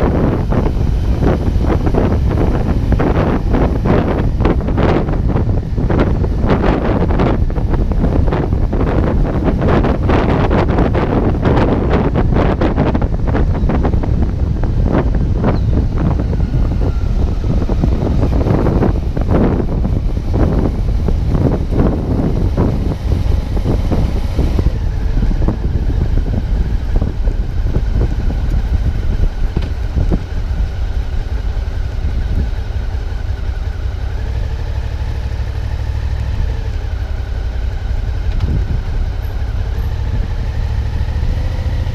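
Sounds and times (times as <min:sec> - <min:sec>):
motorcycle engine running: 0:00.0 - 0:41.9
wind buffeting microphone: 0:00.0 - 0:41.9.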